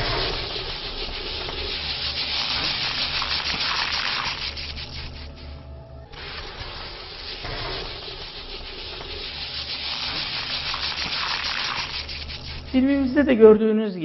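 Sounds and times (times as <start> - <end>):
rough hissing with crackles: 0.0 - 13.3.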